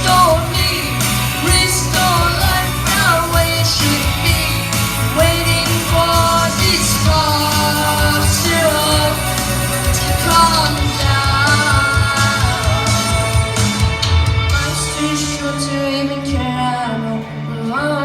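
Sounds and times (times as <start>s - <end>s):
live rock music: 0.0s - 18.0s
man singing: 0.0s - 18.0s.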